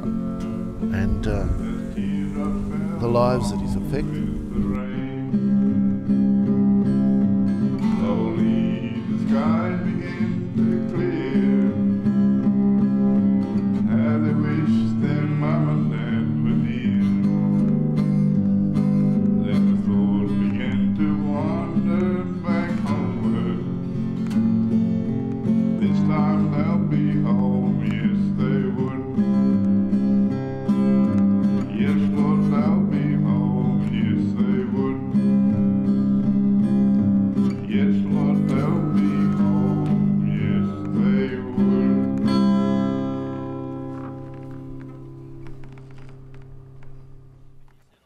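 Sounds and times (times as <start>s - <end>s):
acoustic guitar music: 0.0s - 48.0s.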